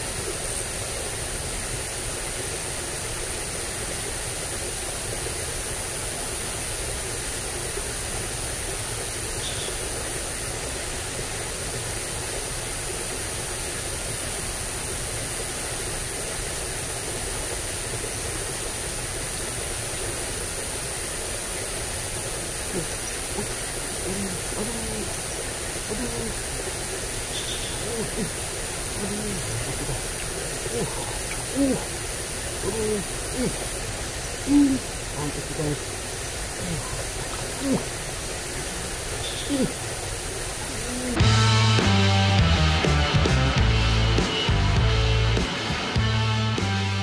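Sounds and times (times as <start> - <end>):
flowing water rushing: 0.0 - 44.6.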